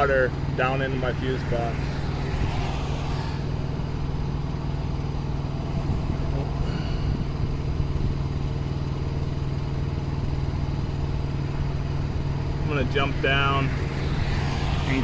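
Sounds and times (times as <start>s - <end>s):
engine idling hum: 0.0s - 15.0s.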